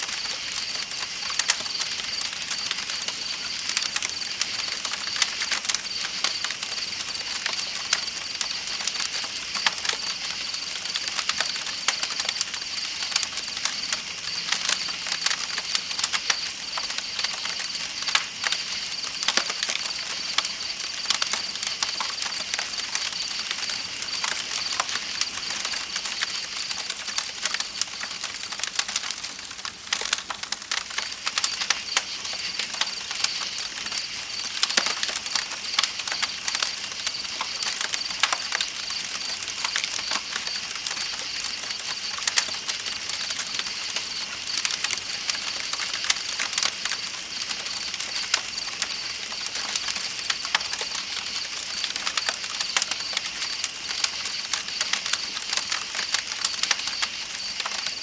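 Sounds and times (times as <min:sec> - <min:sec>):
night insects chirping: 0:00.0 - 0:29.3, 0:30.0 - 0:58.0
campfire crackling and popping: 0:00.0 - 0:58.0.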